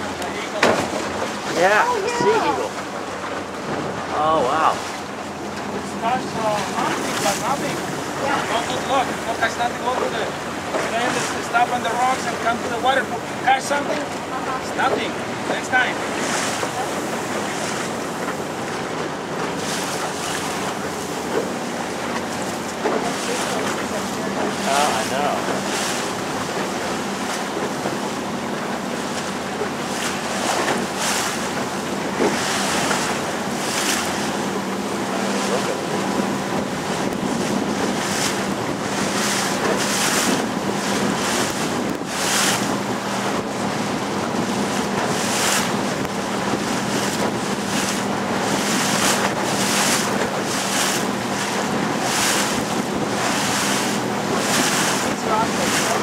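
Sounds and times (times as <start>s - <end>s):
motorboat motor running: 0.0s - 56.0s
water rushing and splashing: 0.0s - 56.0s
wind buffeting microphone: 0.0s - 56.0s.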